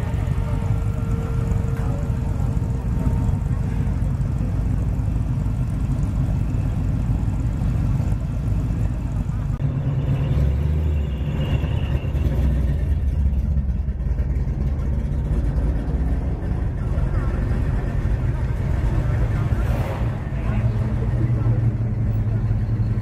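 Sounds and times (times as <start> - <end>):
car engines driving slowly past: 0.0 - 23.0.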